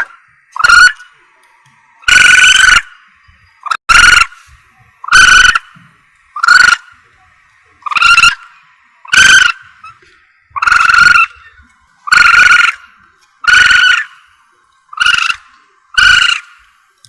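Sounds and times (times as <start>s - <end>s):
civet rasping calls: 0.0s - 16.9s.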